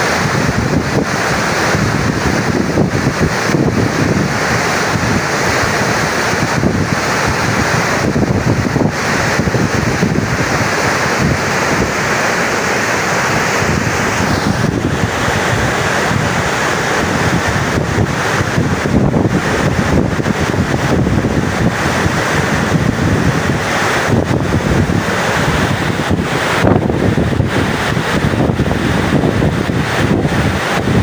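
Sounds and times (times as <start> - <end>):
water rushing down spillway: 0.0 - 31.0
wind buffeting microphone: 0.0 - 31.0.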